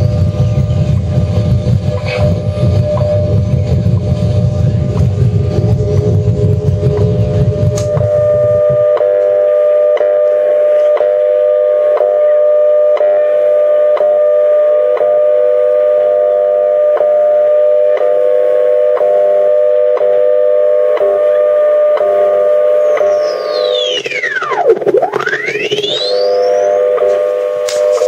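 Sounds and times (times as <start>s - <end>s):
two-tone radio hum: 0.0s - 28.0s.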